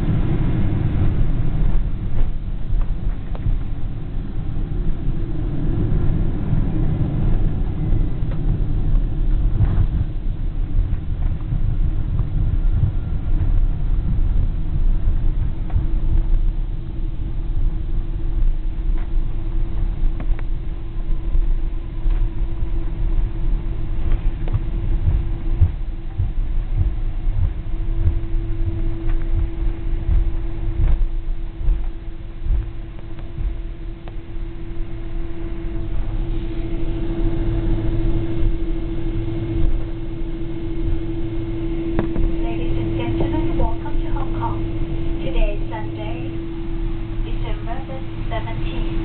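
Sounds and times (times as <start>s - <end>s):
aircraft cabin engine rumble: 0.0s - 49.0s
steady hum: 0.0s - 49.0s.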